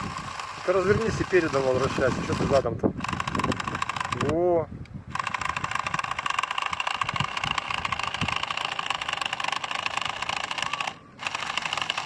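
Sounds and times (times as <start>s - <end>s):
small electric motors whirring: 0.0s - 4.4s, 5.1s - 12.0s.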